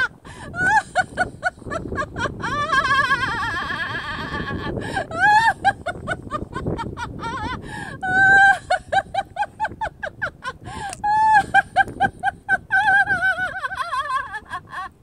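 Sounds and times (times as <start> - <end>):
woman laughing hard: 0.0 - 15.0.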